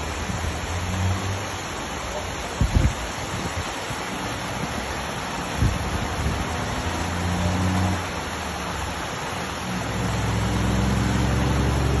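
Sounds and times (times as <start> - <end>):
floodwater rushing over boulders: 0.0 - 12.0.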